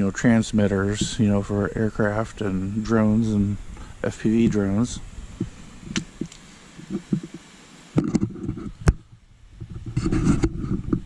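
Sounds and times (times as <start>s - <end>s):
wind rumble on microphone: 0.3s - 7.4s, 8.0s - 11.0s.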